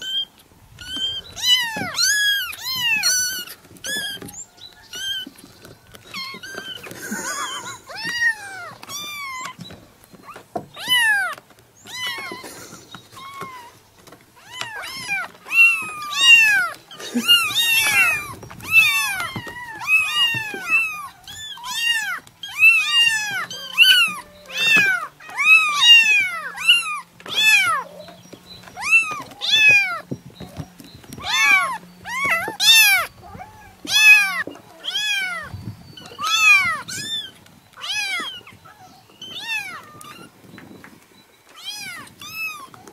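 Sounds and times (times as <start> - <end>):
kittens meowing: 0.0 - 40.4, 41.5 - 42.9.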